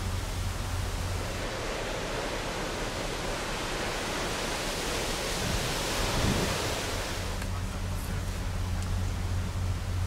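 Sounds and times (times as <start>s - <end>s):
rushing wind: 0.0s - 10.0s.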